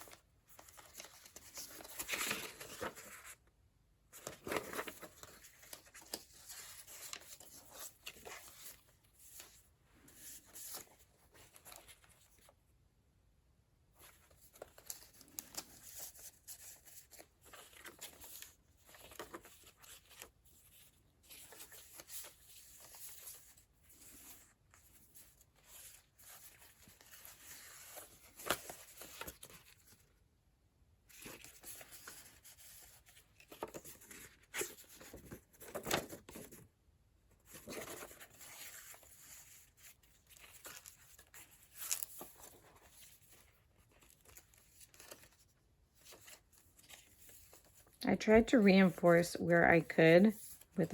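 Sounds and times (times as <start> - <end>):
paper pages rustling and crinkling: 0.0 - 3.4, 4.1 - 12.6, 14.0 - 30.2, 31.0 - 50.9.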